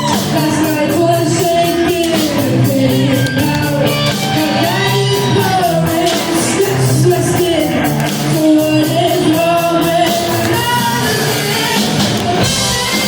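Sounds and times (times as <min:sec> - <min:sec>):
bass guitar: 0:00.0 - 0:13.0
distorted electric guitars: 0:00.0 - 0:13.0
drums with cymbal hits: 0:00.0 - 0:13.0
person singing: 0:00.0 - 0:13.0.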